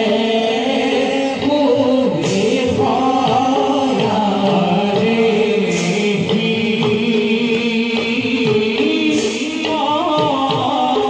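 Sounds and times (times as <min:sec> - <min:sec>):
hand drum strokes: 0:00.1 - 0:11.0.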